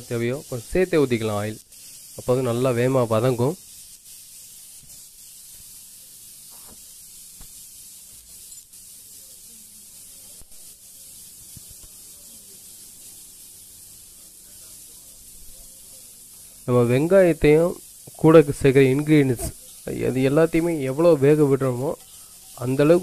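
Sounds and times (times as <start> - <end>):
food sizzling on a griddle: 0.0 - 23.0.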